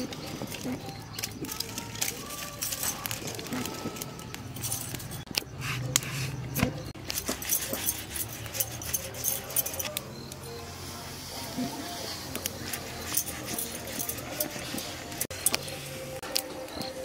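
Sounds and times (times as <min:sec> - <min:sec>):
bangles clinking: 0:00.0 - 0:10.8, 0:11.4 - 0:17.0.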